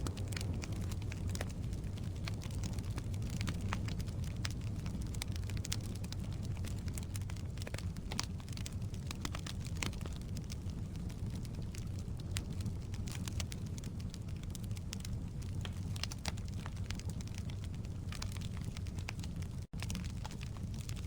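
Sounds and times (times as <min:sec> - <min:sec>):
fire crackles and pops: 0:00.0 - 0:21.0
fire rumbling: 0:00.0 - 0:21.0.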